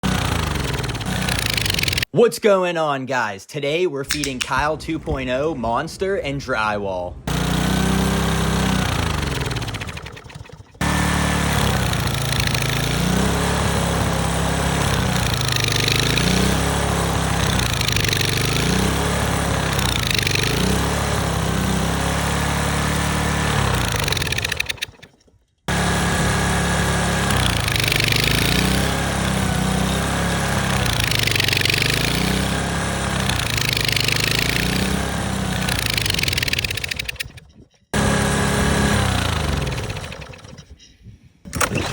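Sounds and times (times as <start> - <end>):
small engine running: 0.0 - 2.1, 7.3 - 40.9.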